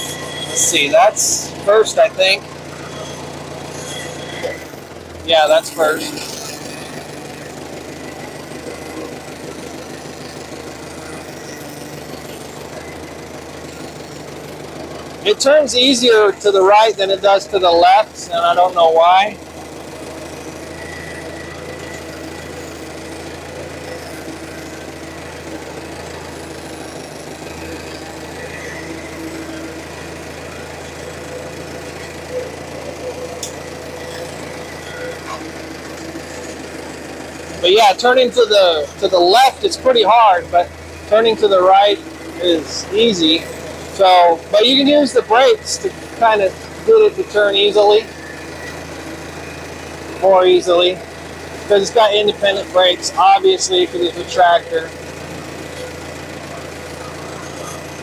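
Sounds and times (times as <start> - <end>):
tractor engine running at low speed: 0.0 - 58.0.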